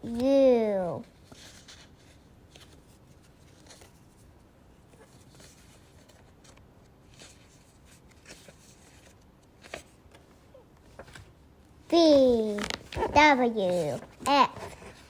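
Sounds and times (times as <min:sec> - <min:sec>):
paper cards rustling: 0:01.2 - 0:04.2, 0:05.0 - 0:11.4, 0:12.0 - 0:15.0.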